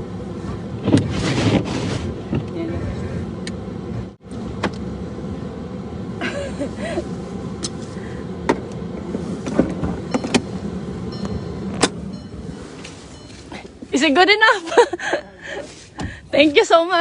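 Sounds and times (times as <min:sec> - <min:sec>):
car engine rumble inside cabin: 0:00.0 - 0:17.0.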